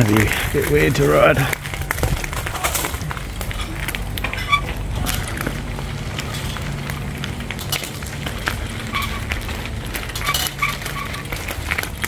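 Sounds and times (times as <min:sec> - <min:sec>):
bicycle tyres crunching over gravel: 0:00.0 - 0:12.0.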